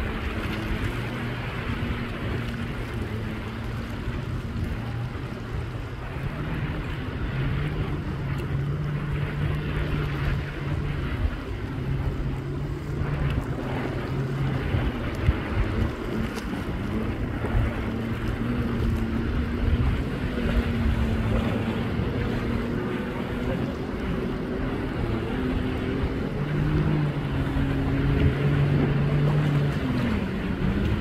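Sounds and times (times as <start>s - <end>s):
jet ski engine wavering: 0.0s - 31.0s
low engine drone: 0.0s - 31.0s
wind buffeting microphone: 0.0s - 31.0s.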